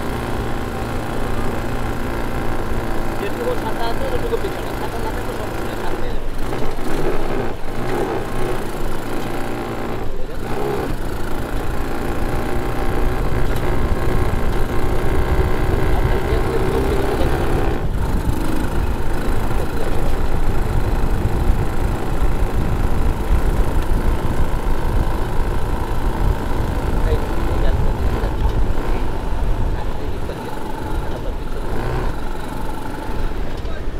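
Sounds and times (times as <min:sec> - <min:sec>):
quad bike engine running: 0:00.0 - 0:33.9.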